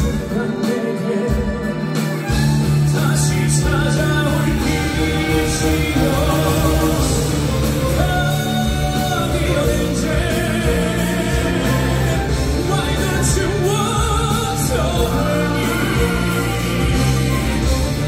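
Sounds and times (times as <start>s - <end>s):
man singing into microphone: 0.0s - 17.8s
amplified rock backing music: 0.0s - 18.0s.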